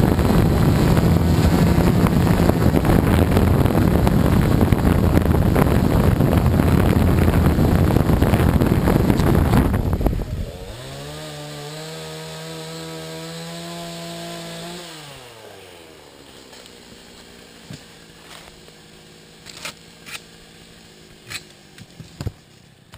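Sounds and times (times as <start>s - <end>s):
quadcopter motors buzzing: 0.0s - 22.6s.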